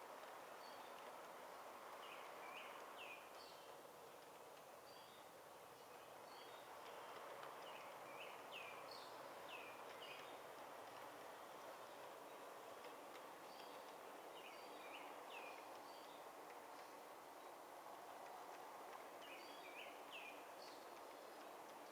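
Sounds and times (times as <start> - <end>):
faint steady hiss: 0.0 - 21.9.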